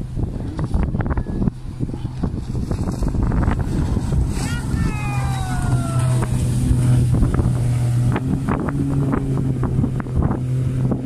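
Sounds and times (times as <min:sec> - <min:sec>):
jet ski engine whine passing: 0:00.0 - 0:11.0.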